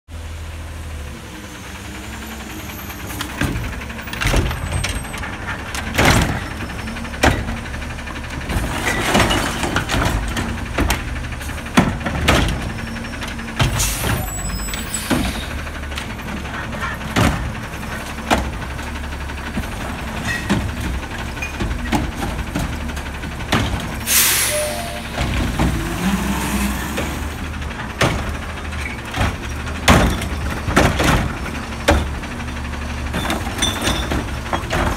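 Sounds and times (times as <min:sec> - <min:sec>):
garbage truck running: 0:00.2 - 0:34.9
carts clunking and knocking: 0:02.0 - 0:34.9.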